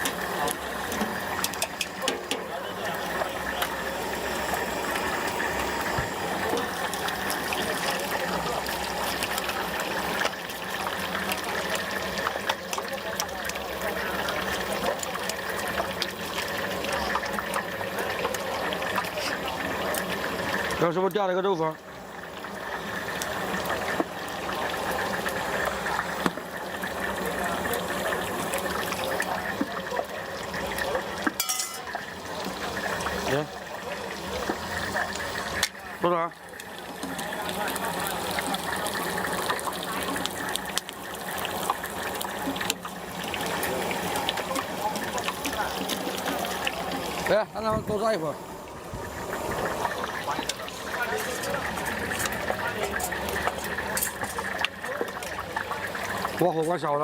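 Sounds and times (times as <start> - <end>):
tofu deep-frying in hot oil: 0.0 - 57.0.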